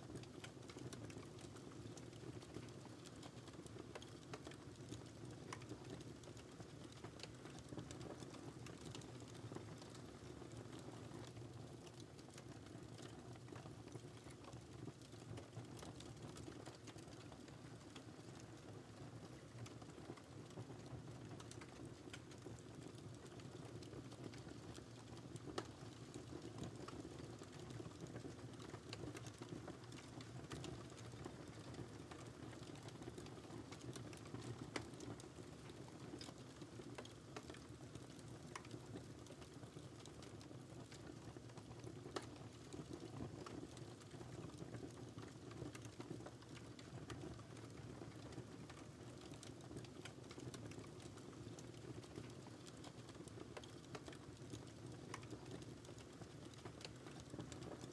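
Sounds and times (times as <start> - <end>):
low rumble of burning: 0.1 - 57.9
wood fire crackling and popping: 0.1 - 57.9.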